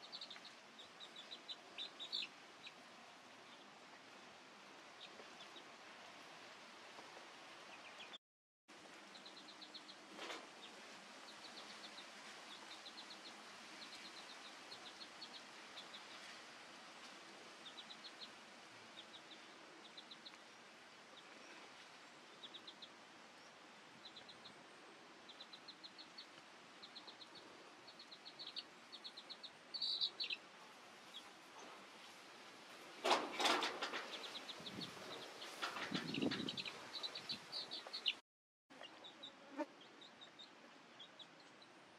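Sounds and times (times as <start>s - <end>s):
small birds chirping: 0.0s - 5.8s, 7.0s - 8.2s, 8.8s - 41.9s.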